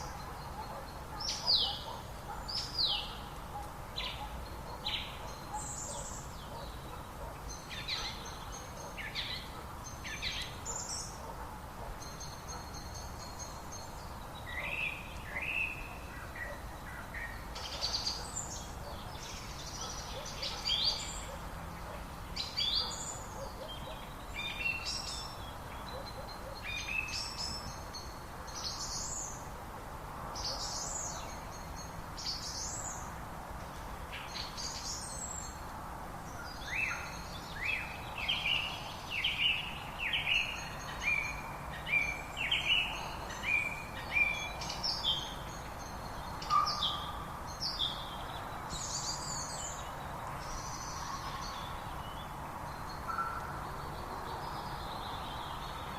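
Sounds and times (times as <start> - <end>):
background hiss: 0.0 - 55.9.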